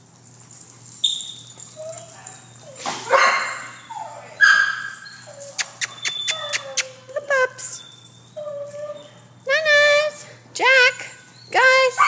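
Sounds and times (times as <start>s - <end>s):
dogs barking and yipping: 0.5s - 9.4s, 11.0s - 12.0s.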